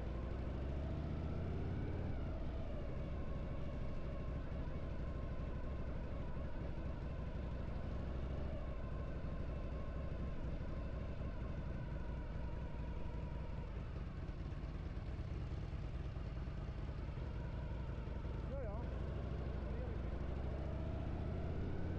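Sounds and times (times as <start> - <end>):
motorcycle engine running: 1.1 - 21.9.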